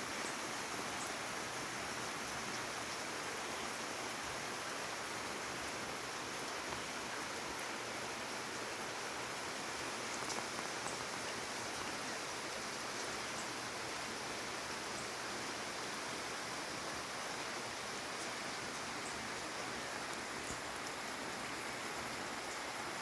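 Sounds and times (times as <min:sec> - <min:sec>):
light rain hiss: 0:00.0 - 0:23.0.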